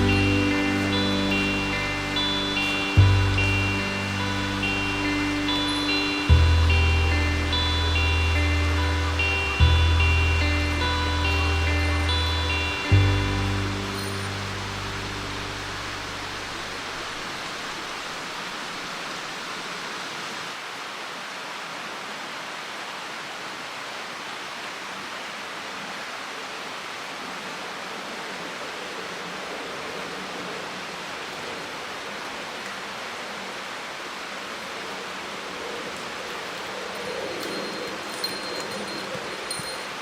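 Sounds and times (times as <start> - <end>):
rushing mountain stream: 0.0 - 40.0.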